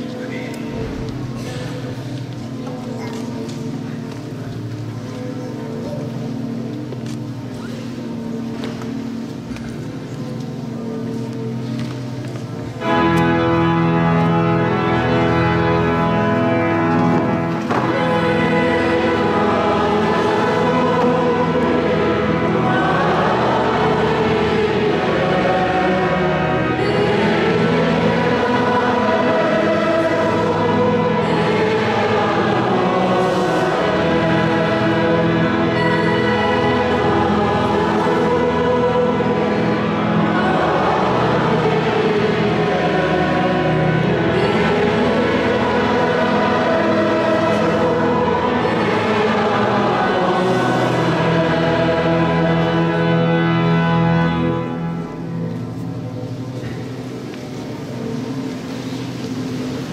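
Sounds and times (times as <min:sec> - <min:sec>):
pipe organ chords: 0:00.0 - 0:59.9
choir singing a hymn: 0:08.2 - 0:59.9.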